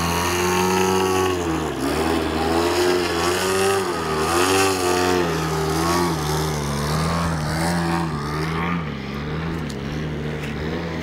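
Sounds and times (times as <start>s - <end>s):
model plane engine revving: 0.0s - 11.0s.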